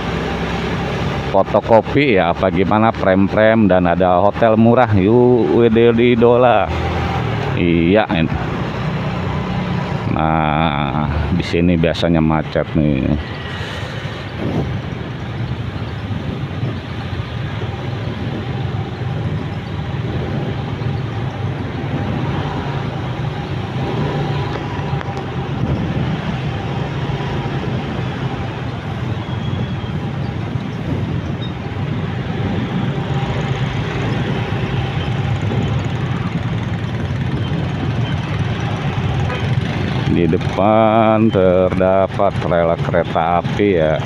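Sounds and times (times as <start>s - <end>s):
motorbike and car engines: 0.0s - 44.0s.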